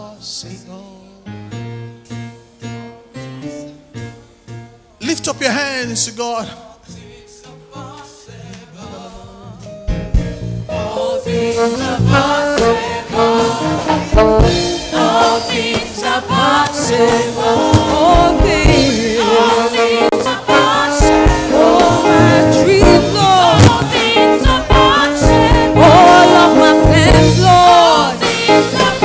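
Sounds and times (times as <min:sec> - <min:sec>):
gospel band with singing: 0:00.0 - 0:29.0.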